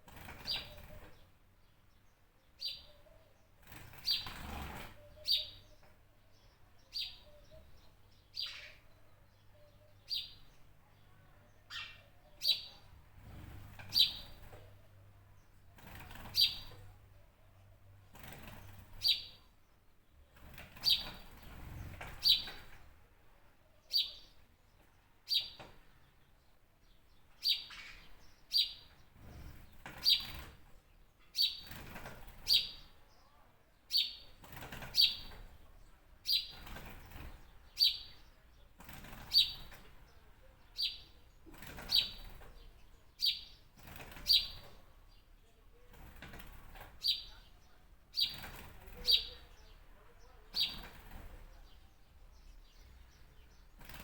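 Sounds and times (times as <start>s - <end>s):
bird chirping: 0.1s - 17.2s, 18.0s - 19.5s, 20.7s - 22.9s, 23.7s - 54.0s.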